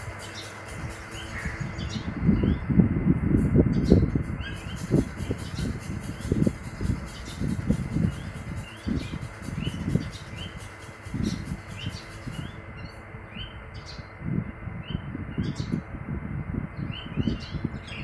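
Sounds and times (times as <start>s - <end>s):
small birds chirping: 0.0s - 14.2s, 14.8s - 15.9s, 16.7s - 18.0s.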